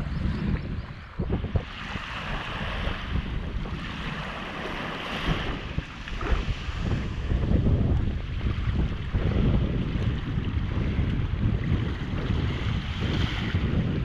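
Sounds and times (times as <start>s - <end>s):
wind buffeting microphone: 0.0s - 14.0s
sea water splashing: 0.6s - 13.9s.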